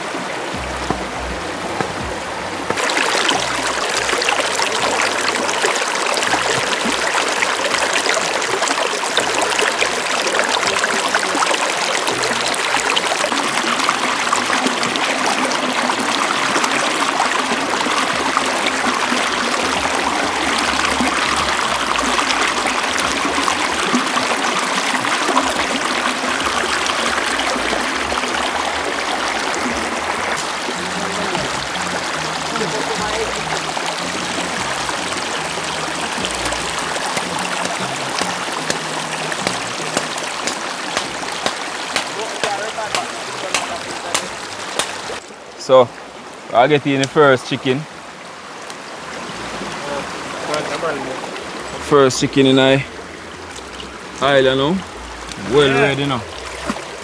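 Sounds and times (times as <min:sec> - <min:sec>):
river splashing over stones: 0:00.0 - 0:57.0.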